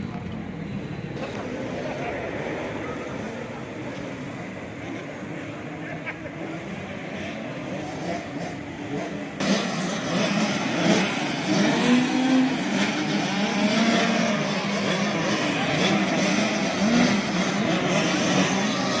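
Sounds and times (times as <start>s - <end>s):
motocross bike engines revving: 1.1s - 19.0s.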